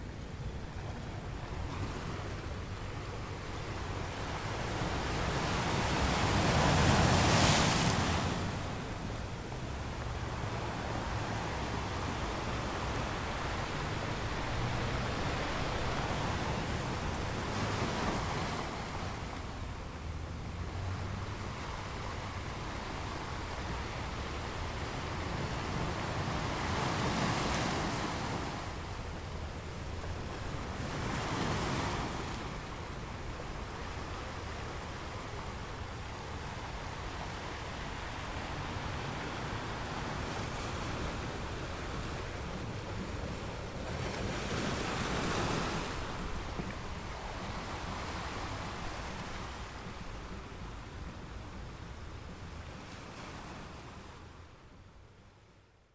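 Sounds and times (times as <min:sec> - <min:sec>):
small waves breaking on beach: 0:00.0 - 0:54.6.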